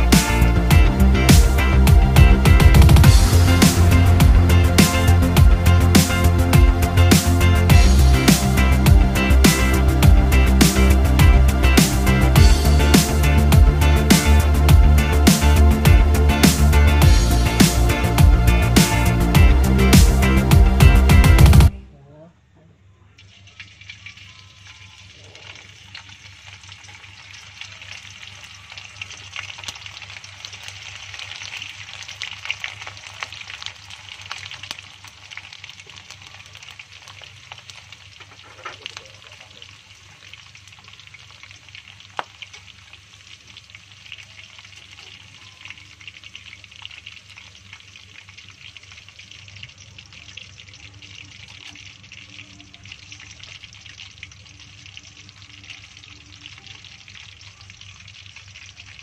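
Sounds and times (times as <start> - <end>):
hot oil sizzling: 0.0 - 21.7, 23.0 - 59.0.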